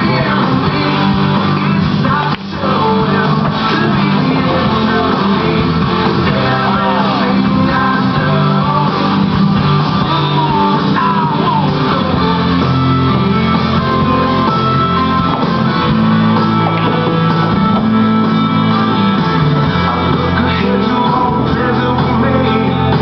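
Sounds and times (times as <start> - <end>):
rock music with guitar: 0.0 - 23.0.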